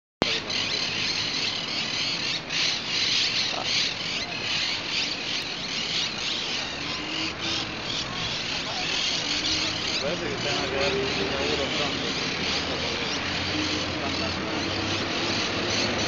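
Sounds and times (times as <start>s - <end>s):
birds chattering and squawking: 0.2s - 16.0s
faint low traffic rumble: 0.2s - 16.0s.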